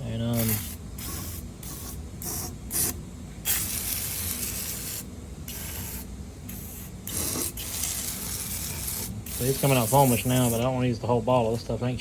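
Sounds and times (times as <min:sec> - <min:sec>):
aerosol can spraying: 0:00.4 - 0:10.6.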